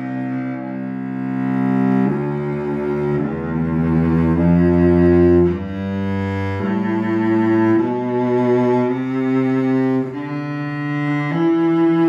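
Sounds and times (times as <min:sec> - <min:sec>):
bowed cello low notes: 0:00.0 - 0:12.0.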